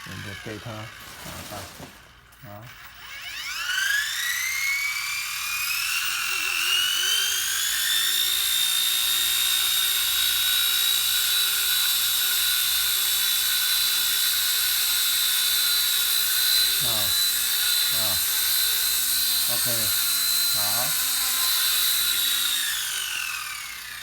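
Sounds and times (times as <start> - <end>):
rc helicopter motor whine: 0.0 - 24.0.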